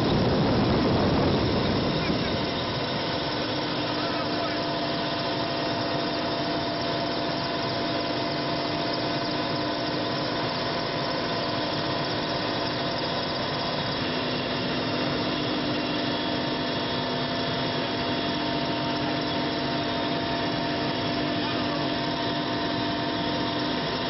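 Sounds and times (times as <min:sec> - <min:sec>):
aircraft engine drone in cabin: 0:00.0 - 0:24.0.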